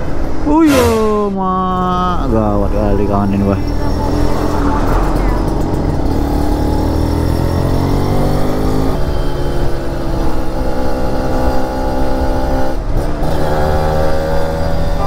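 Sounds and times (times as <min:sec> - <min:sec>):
motorcycle engine accelerating: 0:01.1 - 0:15.0.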